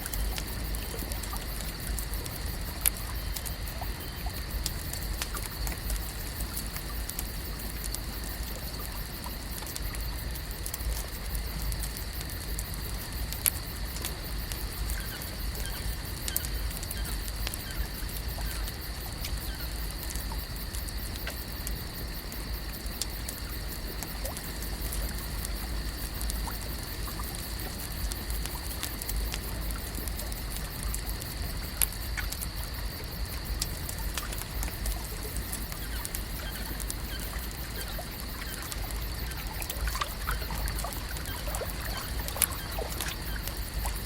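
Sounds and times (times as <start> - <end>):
small ticks and crackles: 0.0 - 44.0.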